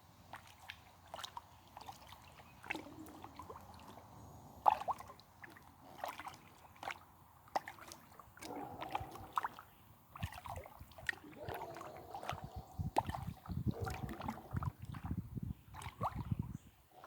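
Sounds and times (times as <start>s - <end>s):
paddle splashing water: 0.0s - 17.0s
water drips: 0.2s - 17.0s.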